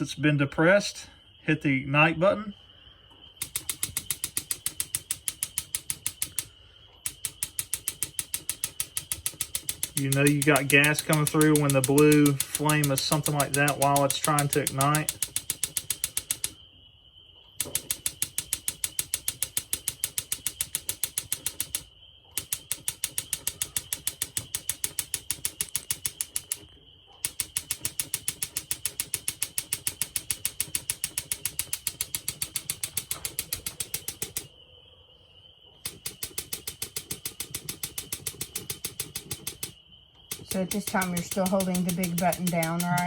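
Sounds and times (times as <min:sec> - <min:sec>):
spark igniter clicking rapidly: 0:03.4 - 0:16.6, 0:17.6 - 0:34.5, 0:35.8 - 0:43.0.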